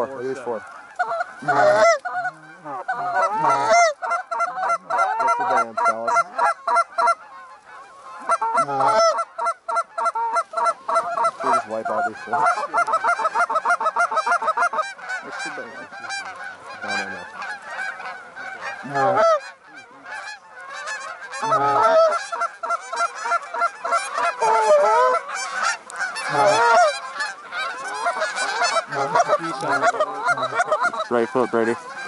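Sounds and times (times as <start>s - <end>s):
geese honking in flight: 0.0s - 32.0s.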